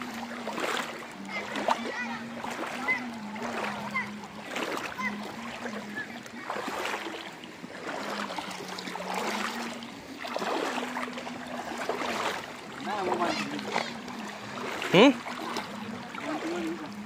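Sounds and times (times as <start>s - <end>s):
boots wading through water: 0.0s - 17.0s.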